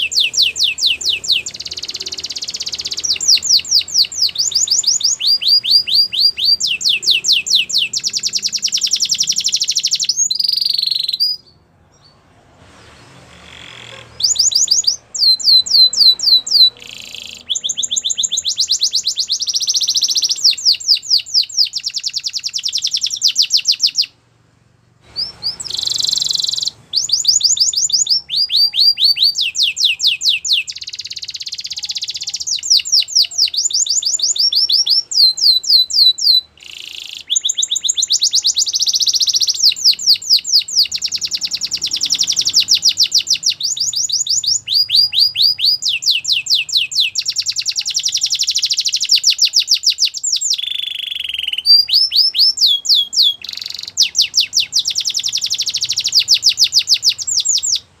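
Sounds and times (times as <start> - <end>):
canary singing trills: 0.0 - 24.2, 25.0 - 58.0.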